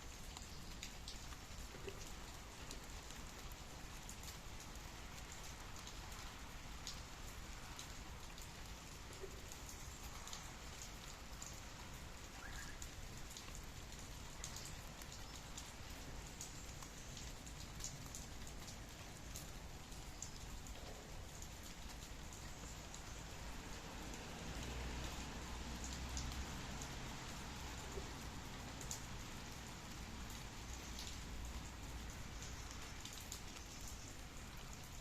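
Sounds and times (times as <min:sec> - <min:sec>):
steady rainfall: 0:00.0 - 0:35.0.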